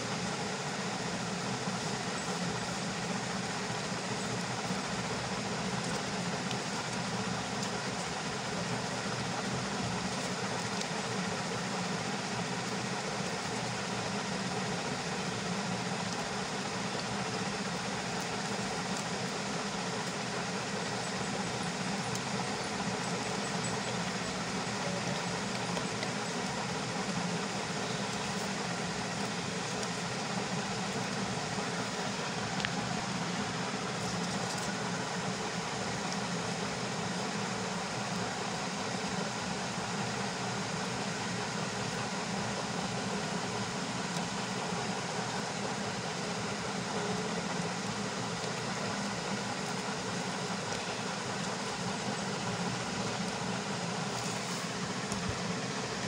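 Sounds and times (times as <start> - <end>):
machinery hum and hiss: 0.0 - 56.0.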